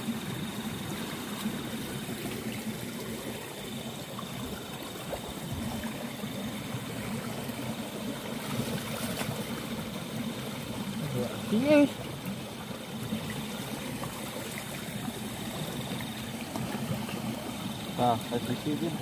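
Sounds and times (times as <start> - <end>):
stream water trickling: 0.0 - 19.0
water sloshing: 1.0 - 19.0.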